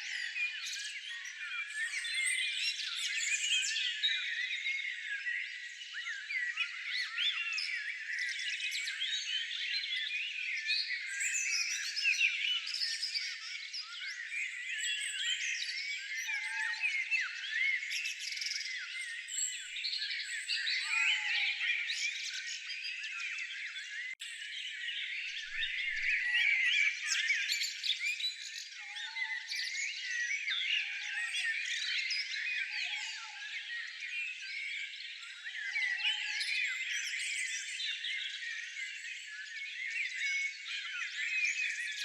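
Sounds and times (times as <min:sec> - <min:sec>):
songbirds chirping and twittering: 0:00.0 - 0:42.0.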